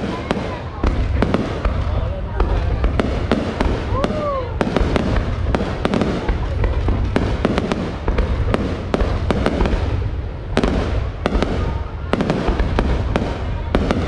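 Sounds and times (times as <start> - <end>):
sharp bangs and pops: 0.0 - 14.0.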